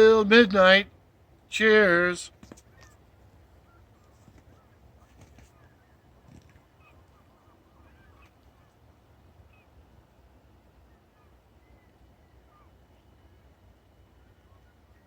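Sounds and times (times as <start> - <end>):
distant geese calling: 0.0 - 15.0
low wind rumble: 0.0 - 15.0.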